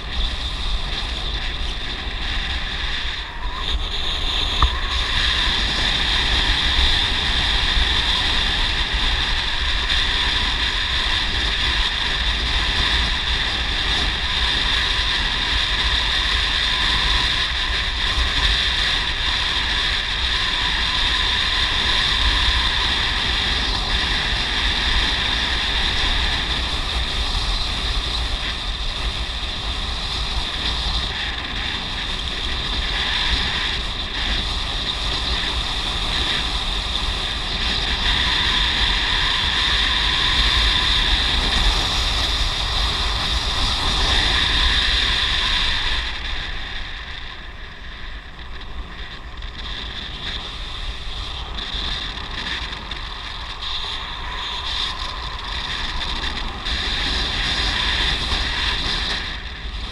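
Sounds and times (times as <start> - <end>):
high-pitched drone: 0.0 - 59.9
wind buffeting microphone: 0.0 - 59.9.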